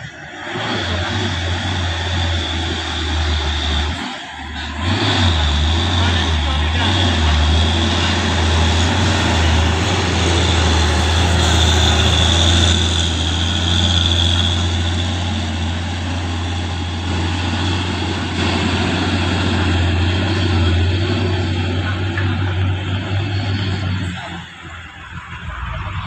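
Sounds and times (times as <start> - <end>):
road noise: 0.0 - 26.0
truck engine under load: 0.0 - 26.0.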